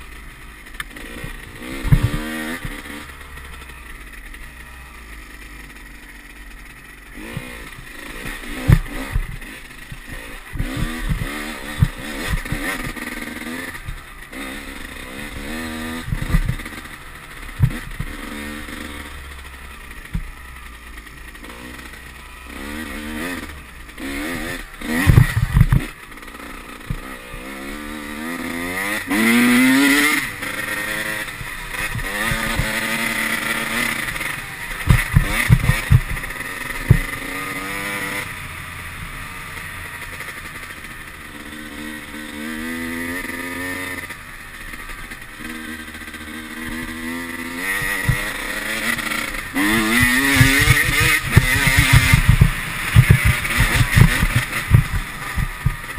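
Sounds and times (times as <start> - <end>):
bike knocking and rattling over bumps: 0.0 - 55.9
dirt bike engine revving: 0.0 - 55.9.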